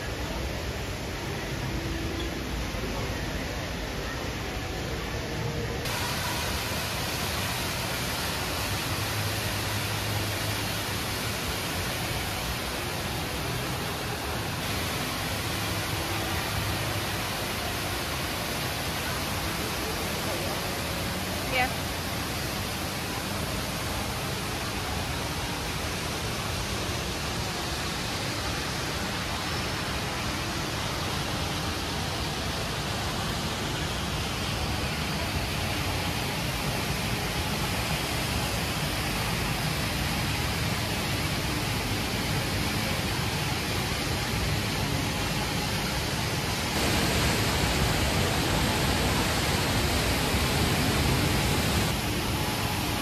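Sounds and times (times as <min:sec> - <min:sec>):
indoor waterfall rushing: 0:00.0 - 0:53.0.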